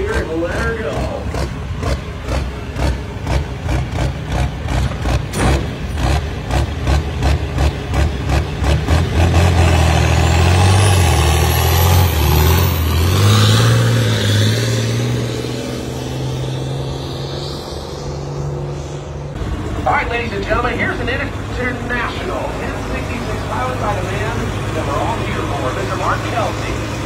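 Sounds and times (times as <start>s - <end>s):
tractor diesel engine at full throttle: 0.0s - 27.0s.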